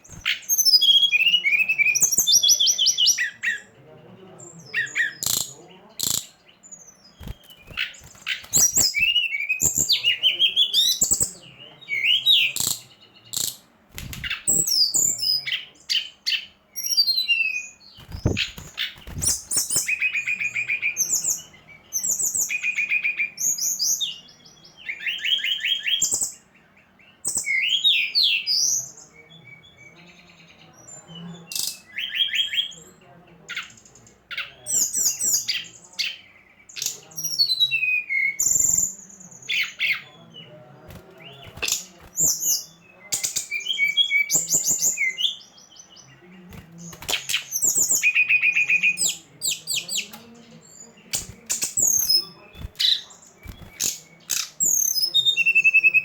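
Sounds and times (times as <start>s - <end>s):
bird chirps and trills: 0.0s - 3.7s, 4.4s - 56.0s.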